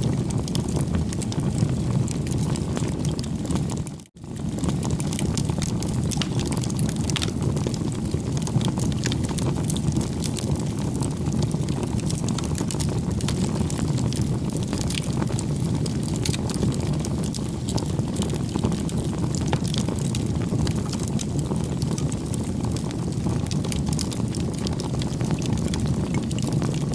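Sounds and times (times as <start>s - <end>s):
campfire crackling: 0.1s - 26.9s.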